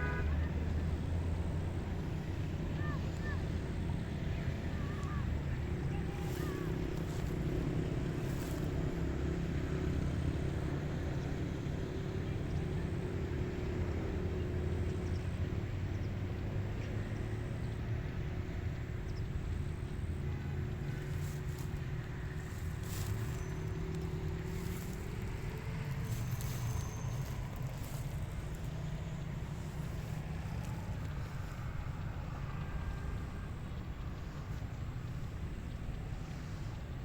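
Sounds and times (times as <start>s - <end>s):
low rumble with faint hum: 0.0s - 37.0s.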